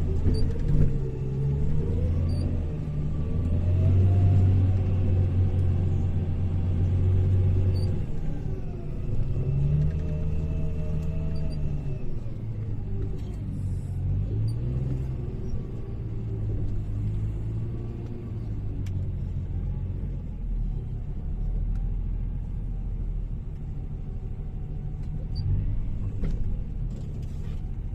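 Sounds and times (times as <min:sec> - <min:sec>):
wheel loader diesel engine running: 0:00.0 - 0:27.9.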